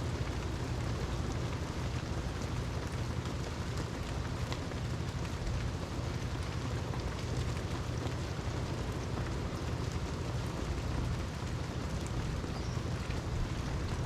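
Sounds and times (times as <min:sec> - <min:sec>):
steady rain falling: 0:00.0 - 0:14.0
raindrop ticks: 0:00.1 - 0:14.0.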